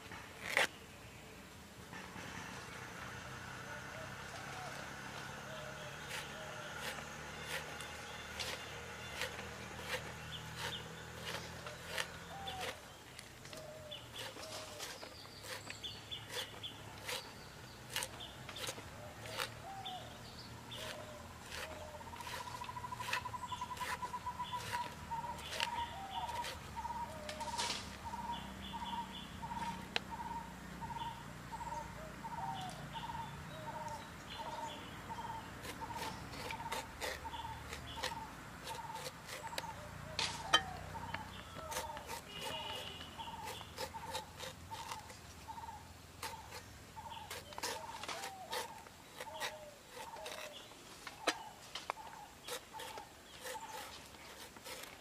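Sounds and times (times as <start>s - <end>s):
birds chirping and trilling: 0.1s - 55.0s.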